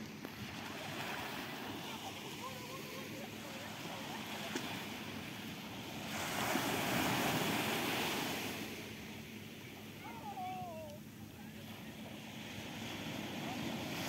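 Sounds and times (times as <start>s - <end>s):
waves crashing on beach: 0.0s - 14.0s.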